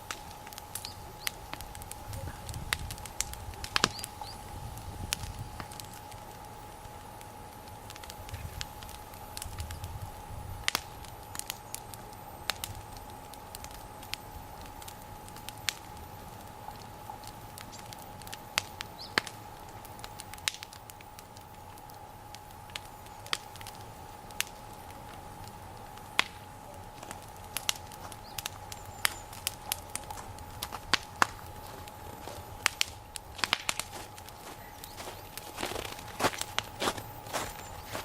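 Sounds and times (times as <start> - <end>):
bonfire crackling and popping: 0.0 - 38.0.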